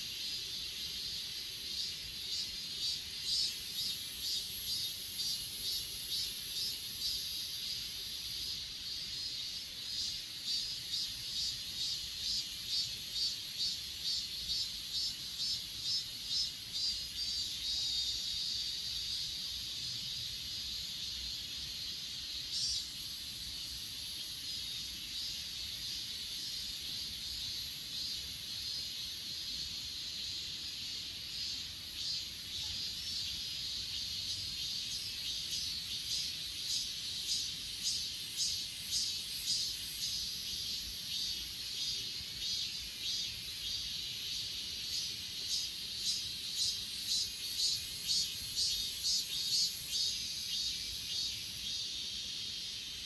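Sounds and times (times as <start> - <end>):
insects trilling: 0.0 - 53.0
pulsed insect chirping: 0.1 - 53.0.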